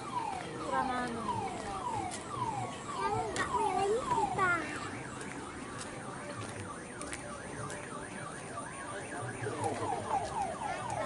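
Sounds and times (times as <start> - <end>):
electronic siren tones: 0.0 - 11.0.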